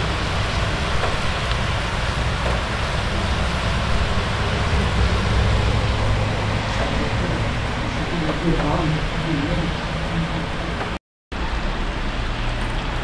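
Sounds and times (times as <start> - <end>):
heavy rain pouring: 0.0 - 13.0
low thunder rumble: 0.0 - 13.0.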